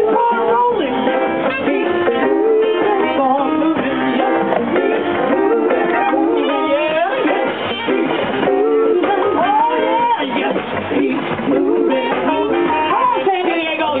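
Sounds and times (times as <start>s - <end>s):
swing band playing: 0.0s - 14.0s
woman singing: 0.0s - 14.0s.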